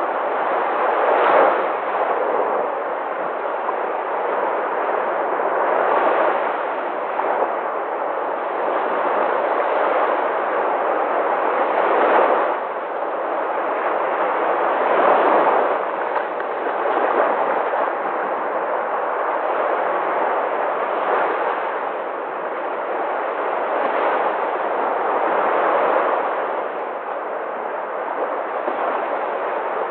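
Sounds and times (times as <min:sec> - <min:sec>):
sea waves breaking on shore: 0:00.0 - 0:29.9.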